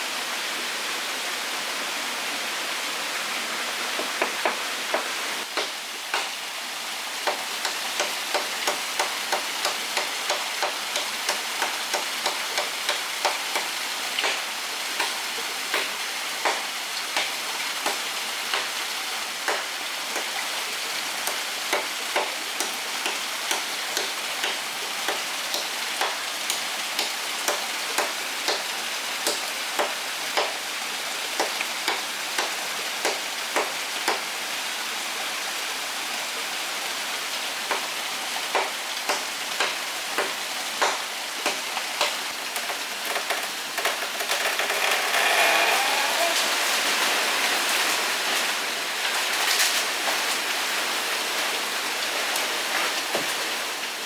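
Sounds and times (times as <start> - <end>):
forest stream rushing: 0.0 - 54.0.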